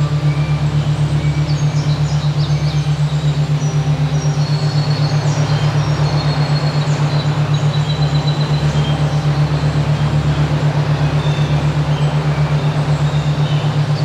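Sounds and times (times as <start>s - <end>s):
low pulsing humming tone: 0.0s - 14.0s
songbirds chirping and whistling: 0.0s - 14.0s.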